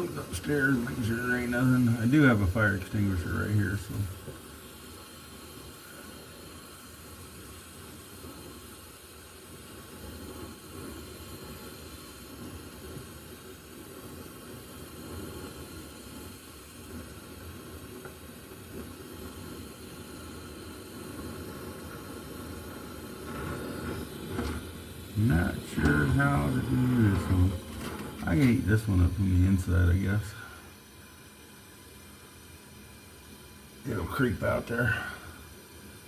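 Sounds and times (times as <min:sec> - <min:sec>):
gas torch flame hissing: 0:00.0 - 0:36.0.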